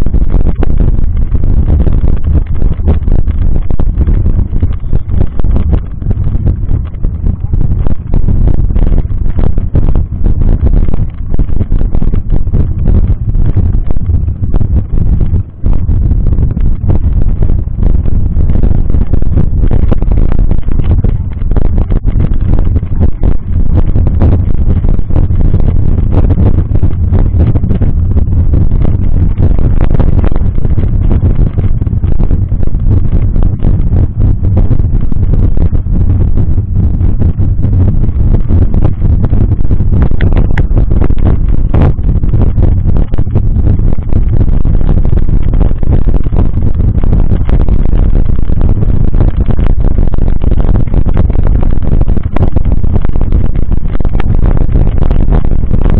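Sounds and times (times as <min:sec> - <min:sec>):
wind and road rumble: 0:00.0 - 0:55.9.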